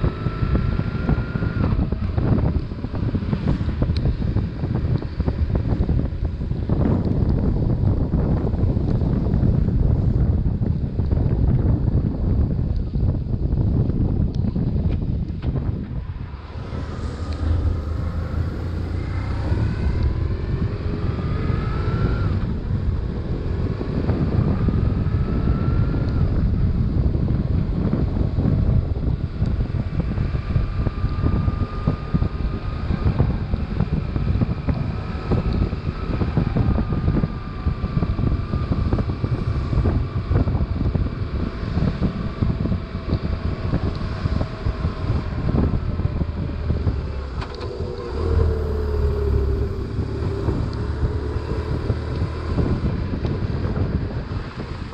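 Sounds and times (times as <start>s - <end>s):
motorcycle engine accelerating: 0.0s - 54.9s
wind buffeting microphone: 0.0s - 54.9s.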